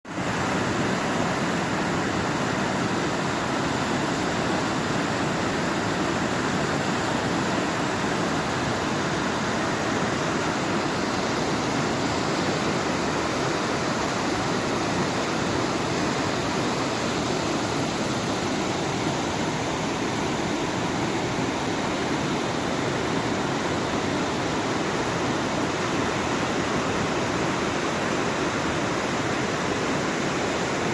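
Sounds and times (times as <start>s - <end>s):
flowing water rushing: 0.1s - 30.9s.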